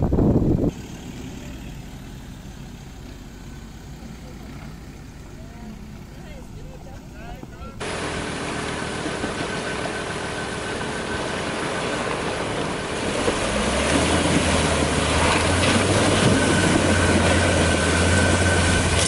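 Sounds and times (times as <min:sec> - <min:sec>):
pickup truck engine: 0:00.0 - 0:19.0.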